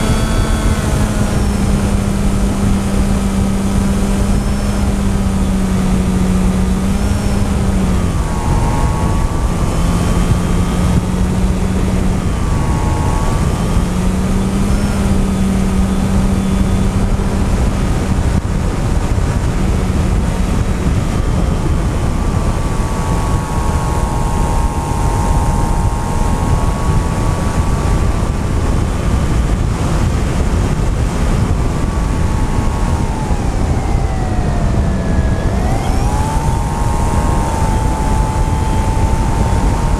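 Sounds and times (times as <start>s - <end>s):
drone motors whining: 0.0s - 39.9s
wind rush on microphone: 0.0s - 39.9s.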